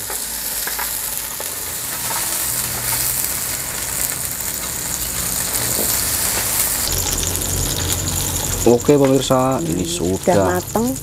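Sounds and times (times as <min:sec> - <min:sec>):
chillies sizzling in oil: 0:00.0 - 0:11.0.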